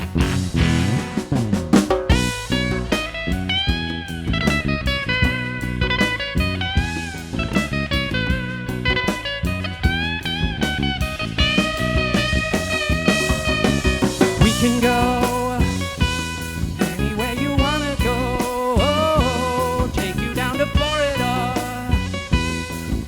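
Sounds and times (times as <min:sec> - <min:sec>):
bass: 0:00.0 - 0:23.0
drums: 0:00.0 - 0:23.0
guitar: 0:00.0 - 0:23.0
lead line with bending notes: 0:00.0 - 0:23.0.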